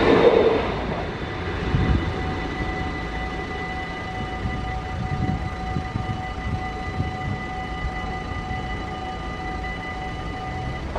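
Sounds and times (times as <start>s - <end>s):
level crossing bells ringing: 0.9s - 10.9s.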